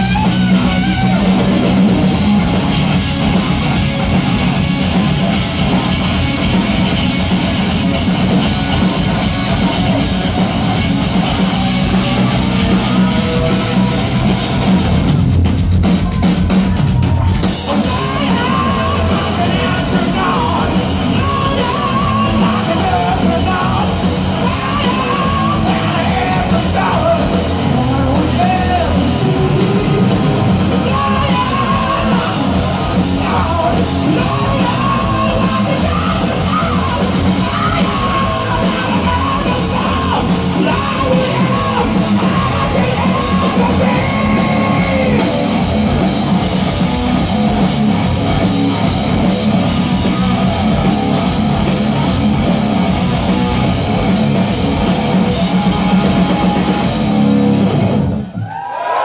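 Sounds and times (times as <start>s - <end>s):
pitch-bending lead guitar line: 0.0s - 58.4s
rock band playing live: 0.0s - 58.4s.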